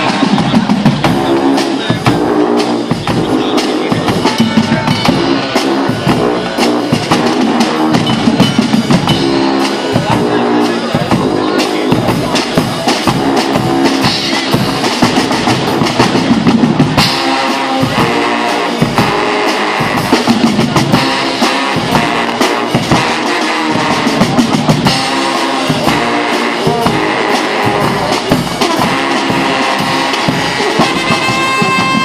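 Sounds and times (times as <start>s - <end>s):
bass drums and snare drums: 0.0s - 32.0s
brass band playing loudly: 0.0s - 32.0s.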